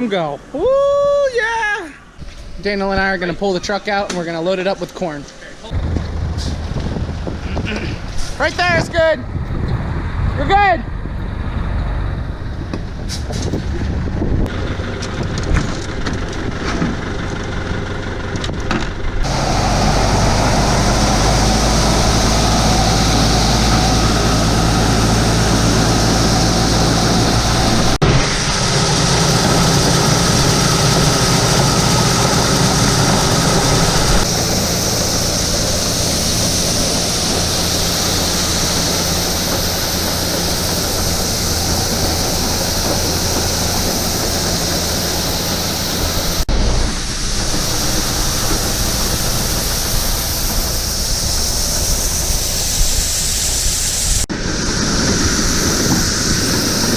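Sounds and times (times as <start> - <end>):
farm machinery engine running: 5.6 - 56.9.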